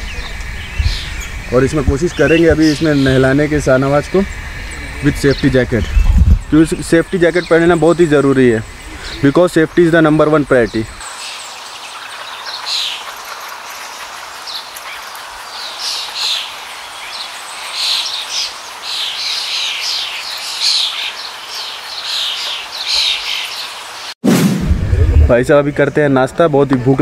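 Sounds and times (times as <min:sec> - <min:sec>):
background hiss: 0:00.0 - 0:24.2
small birds chirping: 0:00.0 - 0:24.2.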